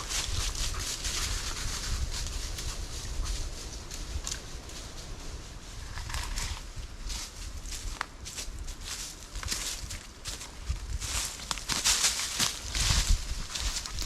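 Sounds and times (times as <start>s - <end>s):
footsteps through dry leaves: 0.0s - 3.7s, 4.5s - 14.0s.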